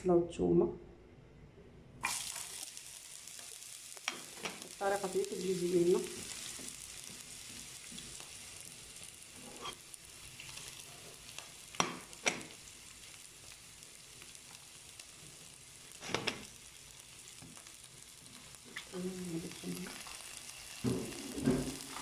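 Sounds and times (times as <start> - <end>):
onion and garlic sizzling in pan: 2.0 - 22.0.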